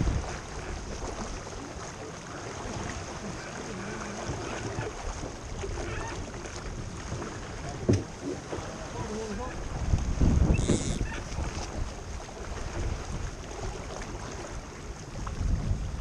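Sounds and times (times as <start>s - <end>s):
wind on microphone: 0.0s - 1.4s, 4.2s - 16.0s
water rushing along hull: 0.0s - 16.0s.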